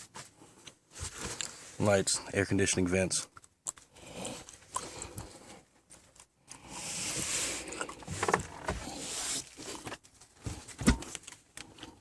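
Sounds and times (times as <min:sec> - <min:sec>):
rustling of things handled: 0:00.0 - 0:12.0.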